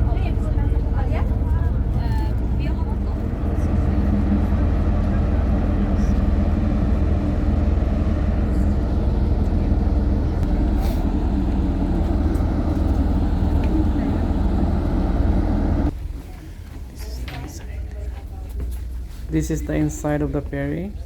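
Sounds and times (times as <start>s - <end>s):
ship machinery hum: 0.0s - 21.0s.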